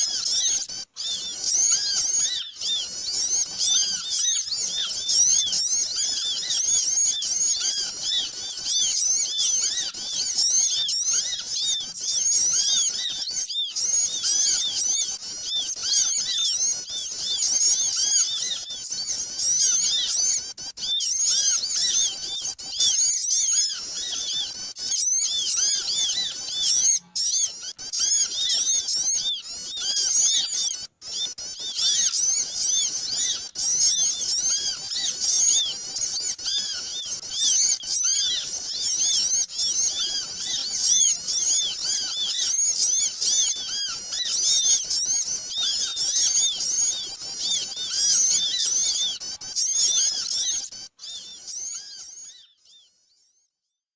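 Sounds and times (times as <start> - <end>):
flock of small birds chattering: 0.0 - 53.6.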